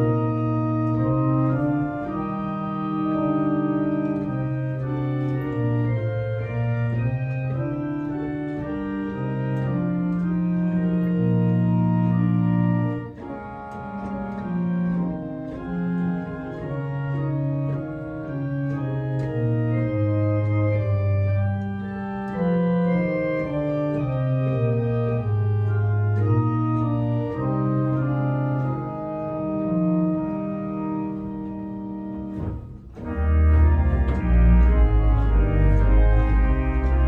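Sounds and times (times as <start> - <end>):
church organ playing hymn: 0.0 - 37.0.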